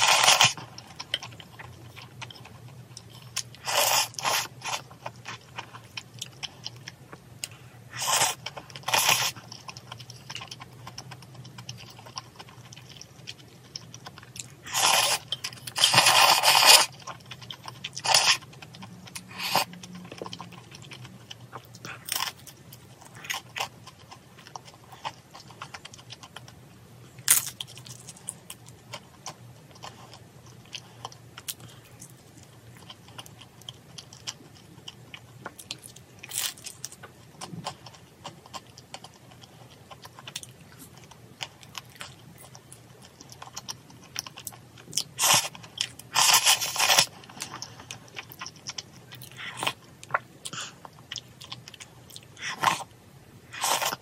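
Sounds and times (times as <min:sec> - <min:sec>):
chewing crunchy fried food: 0:00.0 - 0:54.0.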